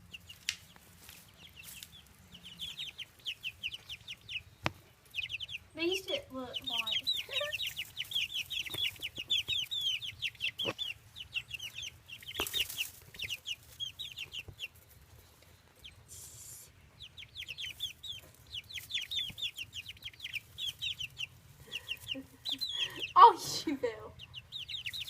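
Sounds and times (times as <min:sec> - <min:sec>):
baby chicks peeping: 0:00.0 - 0:25.0.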